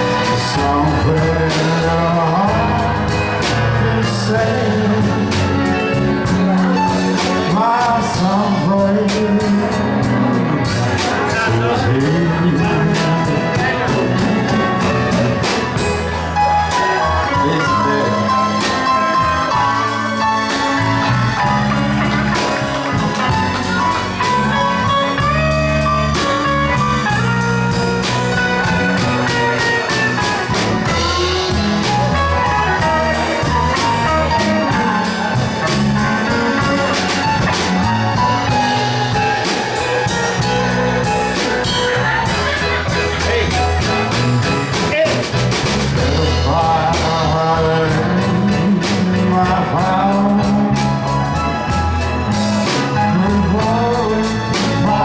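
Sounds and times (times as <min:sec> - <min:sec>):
bass guitar: 0:00.0 - 0:55.0
lead guitar: 0:00.0 - 0:55.0
steady drum beat: 0:00.0 - 0:55.0.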